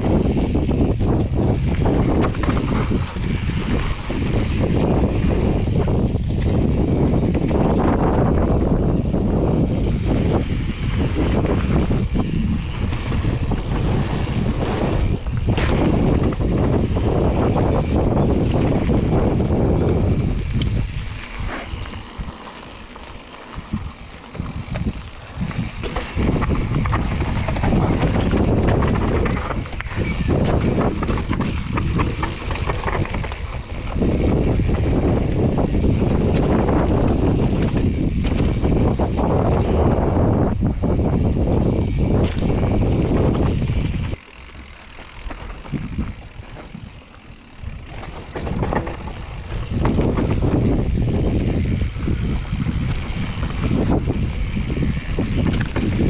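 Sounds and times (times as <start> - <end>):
bike rattling: 0.0 - 56.0
tyres running over dirt: 0.0 - 56.0
wind buffeting microphone: 0.0 - 56.0.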